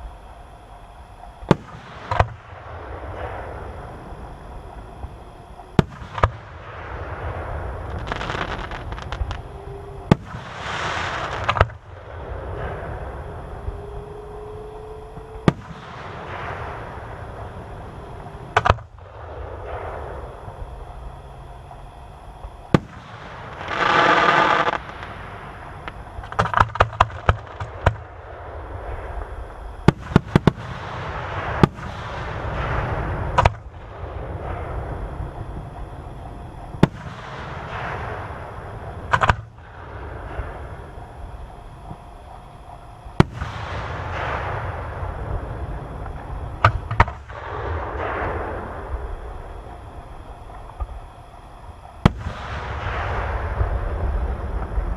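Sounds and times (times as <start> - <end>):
crackling firework reports: 0.0 - 54.9
firework bangs with echoing rumble: 1.4 - 13.7, 15.1 - 21.8, 22.4 - 54.9
firework hiss: 1.5 - 13.7, 22.7 - 54.9.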